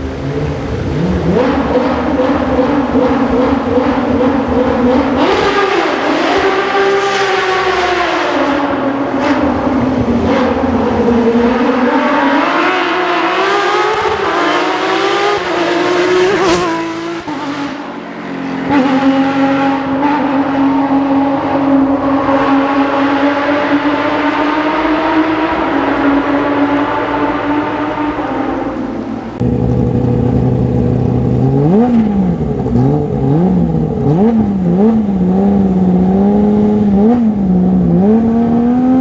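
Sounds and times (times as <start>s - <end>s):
race car engines revving: 0.0s - 39.0s.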